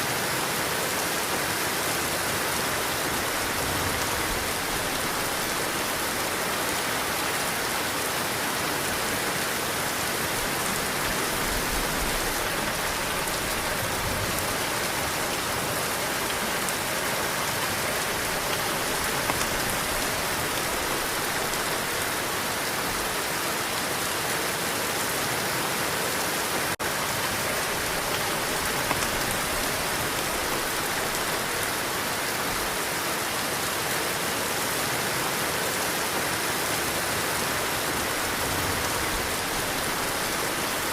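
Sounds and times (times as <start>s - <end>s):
heavy rain hissing: 0.0s - 40.9s
low wind gusts: 0.0s - 40.9s.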